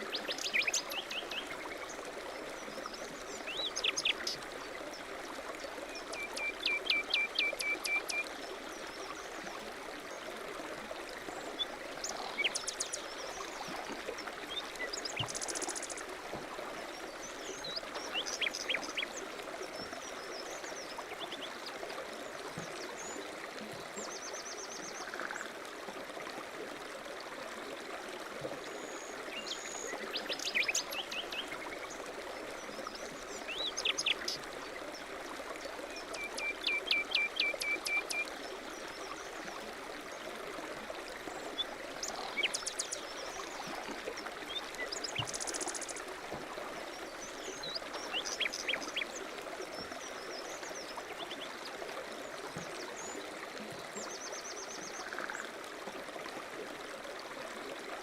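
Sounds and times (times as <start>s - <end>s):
mountain stream running: 0.0s - 58.0s.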